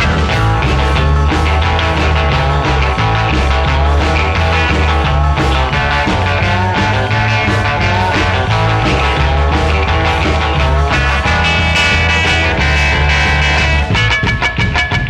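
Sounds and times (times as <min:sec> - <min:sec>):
psychedelic rock music: 0:00.0 - 0:15.0.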